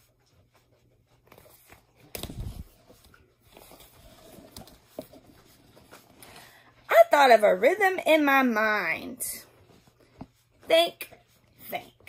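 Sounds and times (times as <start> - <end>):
book pages rustling: 0.0 - 6.8, 9.0 - 12.0.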